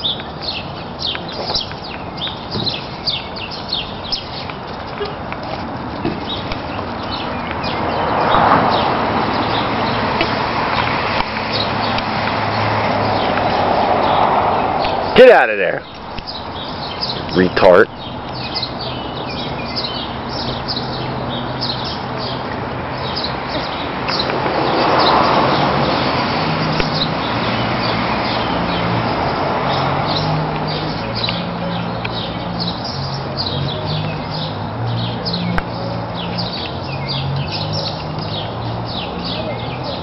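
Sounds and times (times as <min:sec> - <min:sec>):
outdoor background noise: 0:00.0 - 0:40.0
small birds chirping: 0:00.0 - 0:40.0.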